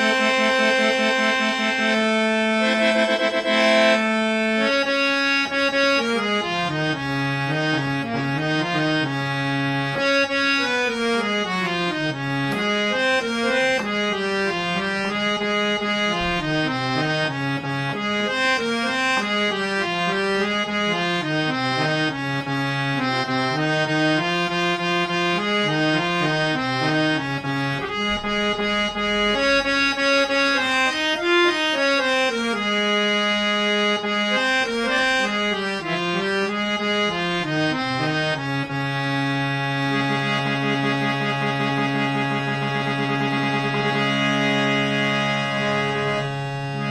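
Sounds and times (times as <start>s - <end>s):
harmonium melody: 0.0s - 46.9s.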